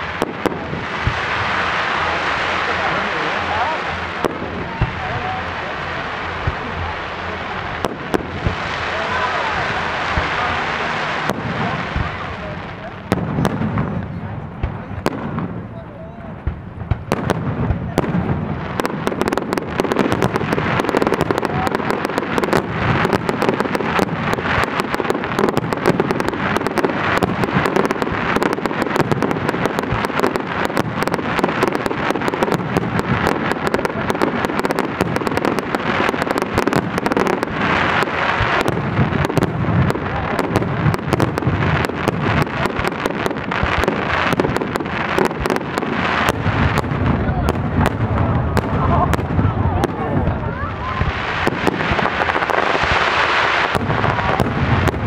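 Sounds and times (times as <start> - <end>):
fireworks crackle: 0.0 - 55.0.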